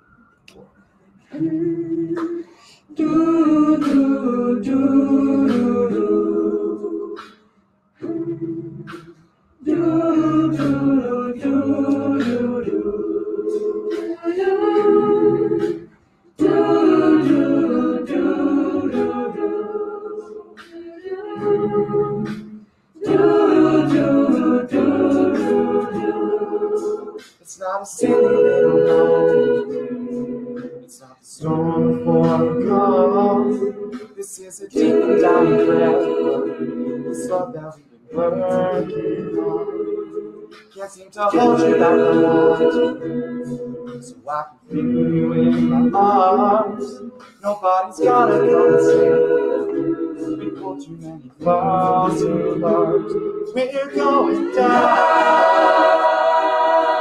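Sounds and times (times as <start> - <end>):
a cappella group singing: 0.0 - 57.0.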